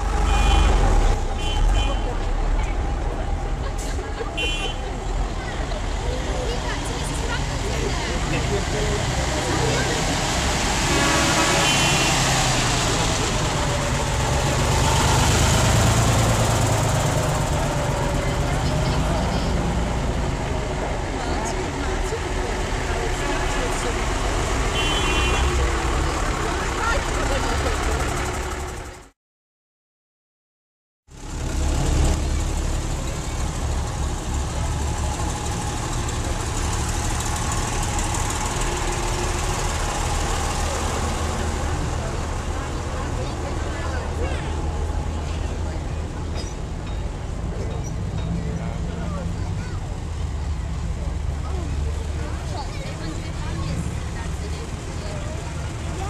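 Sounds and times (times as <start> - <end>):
lorry diesel engines passing: 0.0 - 29.2, 31.1 - 56.0.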